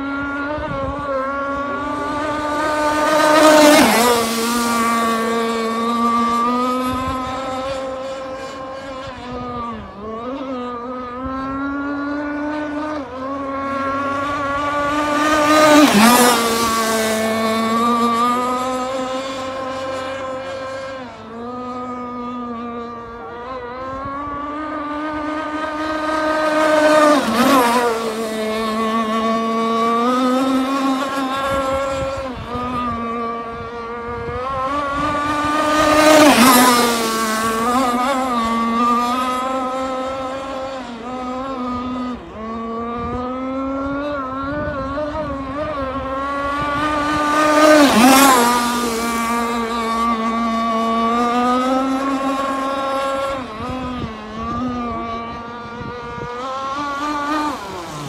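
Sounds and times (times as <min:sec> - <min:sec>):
radio-controlled powerboat engines buzzing: 0:00.0 - 0:58.0.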